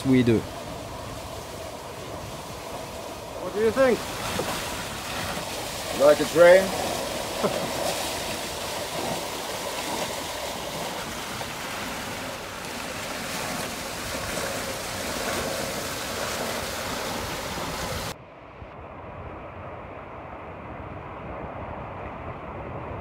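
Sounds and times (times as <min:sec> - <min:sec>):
wind and rushing water: 0:00.0 - 0:23.0.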